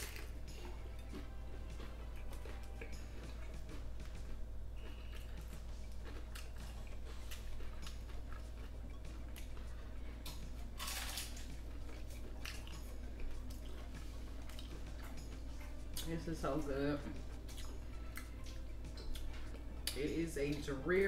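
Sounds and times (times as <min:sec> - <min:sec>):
chewing crunchy food: 0:00.0 - 0:16.3, 0:17.0 - 0:20.7
steady low hum: 0:00.0 - 0:21.0.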